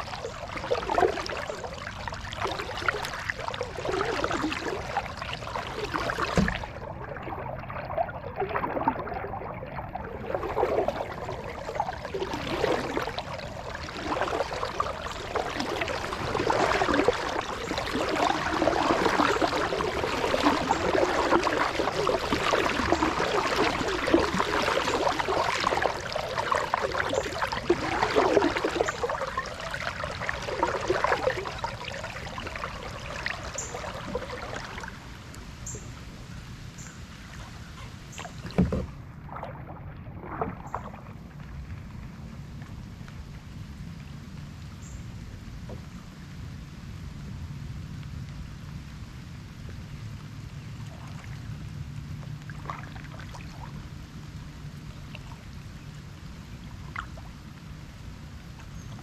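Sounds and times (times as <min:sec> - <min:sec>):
kayak paddle splashing and dripping: 0:00.0 - 0:43.4, 0:49.6 - 0:59.0.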